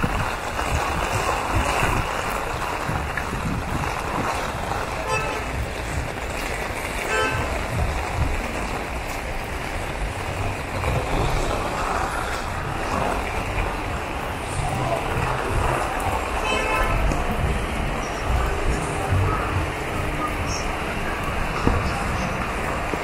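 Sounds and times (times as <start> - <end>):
heavy rain on pavement: 0.0 - 23.0
wind buffeting microphone: 0.0 - 23.0.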